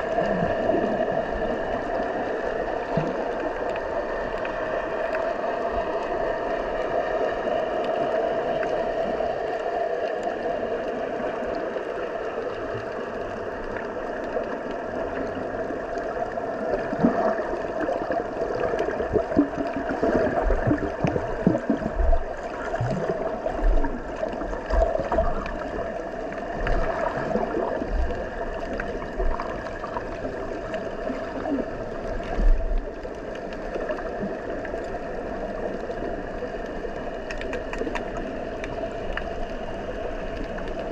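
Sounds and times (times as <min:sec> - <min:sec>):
steady droning hum: 0:00.0 - 0:37.4
underwater water noise: 0:00.0 - 0:40.9.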